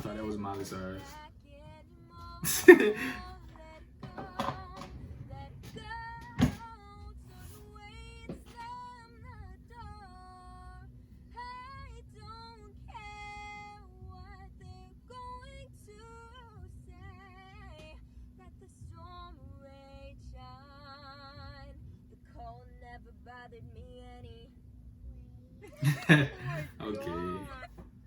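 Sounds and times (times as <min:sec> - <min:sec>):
steady low hum: 0:00.0 - 0:28.0
woman singing: 0:01.0 - 0:28.0.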